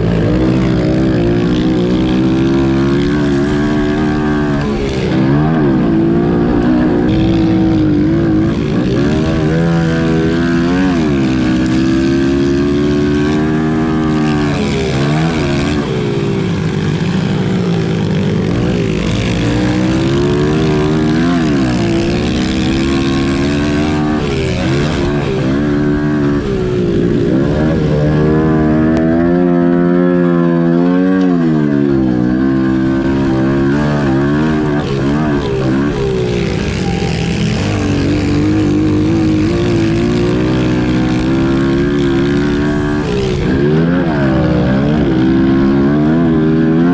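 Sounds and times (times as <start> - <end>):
pit bike engines revving: 0.0 - 46.9.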